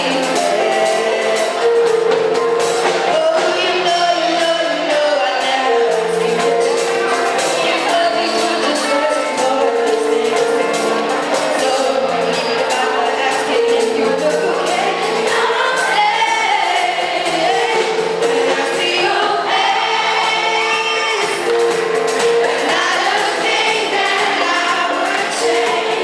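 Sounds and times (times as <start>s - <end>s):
group of voices singing: 0.0s - 26.0s
live band playing: 0.0s - 26.0s.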